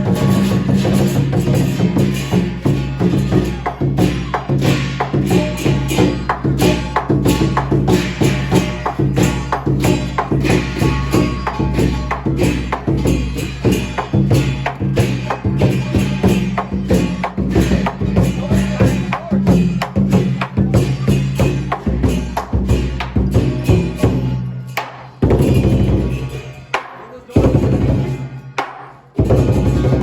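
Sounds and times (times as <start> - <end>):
gong: 0.0 - 24.4
large drum pounding: 0.0 - 24.4, 25.2 - 26.6, 27.3 - 28.5, 29.2 - 30.0
cymbals crashing: 0.0 - 30.0.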